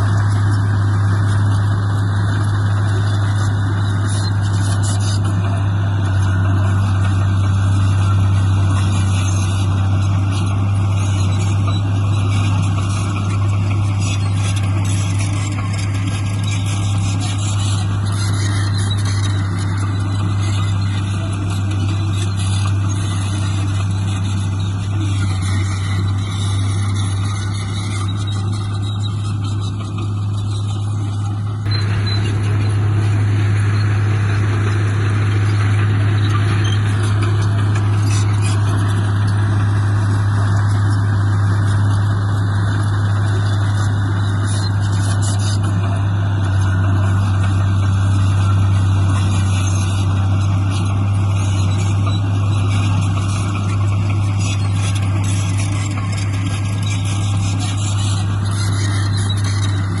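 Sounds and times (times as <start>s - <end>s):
heavy diesel engine running: 0.0s - 60.0s.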